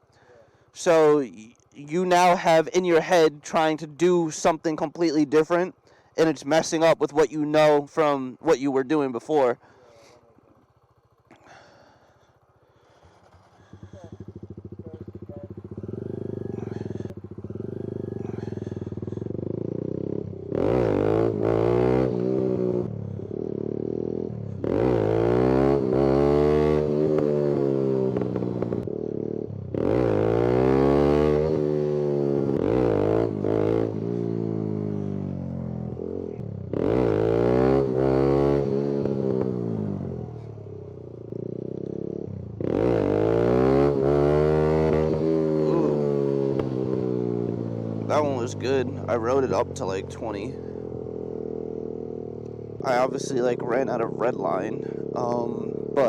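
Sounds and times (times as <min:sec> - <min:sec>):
motorcycle engine revving: 0:09.3 - 0:56.0.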